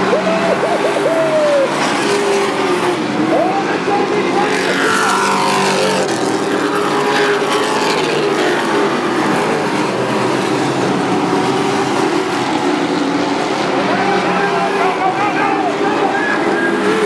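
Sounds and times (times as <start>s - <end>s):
race truck engines passing: 0.0s - 17.0s.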